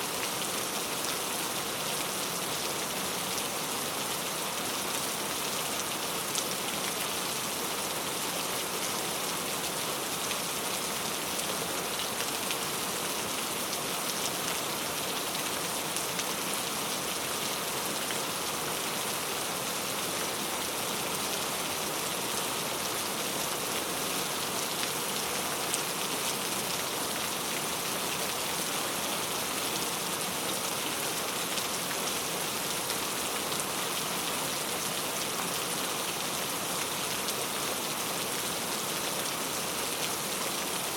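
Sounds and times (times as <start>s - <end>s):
heavy rain on leaves: 0.0s - 40.9s.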